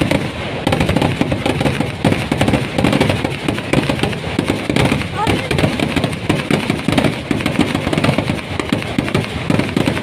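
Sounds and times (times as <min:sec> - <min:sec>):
firecrackers barrage: 0:00.0 - 0:10.0.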